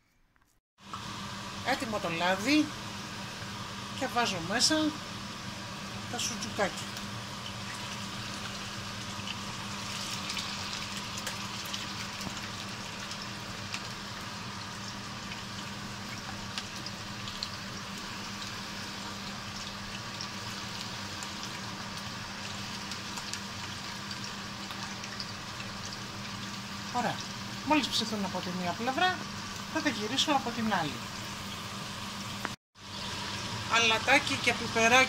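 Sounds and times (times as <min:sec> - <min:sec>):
meat frying in hot oil: 0:00.8 - 0:35.0.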